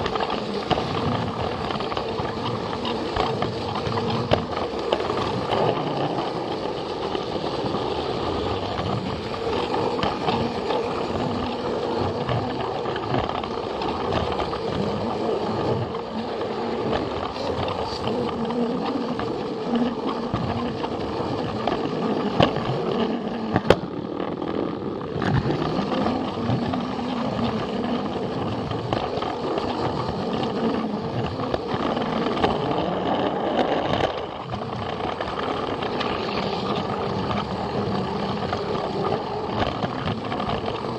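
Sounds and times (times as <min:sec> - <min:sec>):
toy train motor whir: 0:00.0 - 0:40.9.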